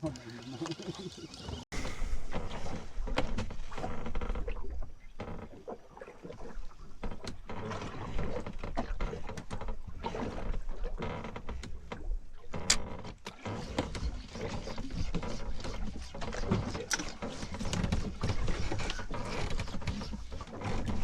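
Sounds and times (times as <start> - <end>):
water against boat hull: 0.0 - 21.0
wind: 0.0 - 21.0.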